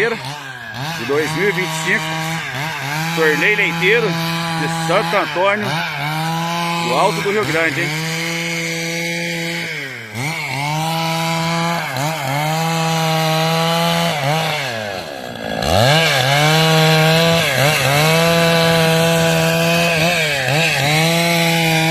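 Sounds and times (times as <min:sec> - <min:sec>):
chainsaw cutting wood: 0:00.0 - 0:21.9.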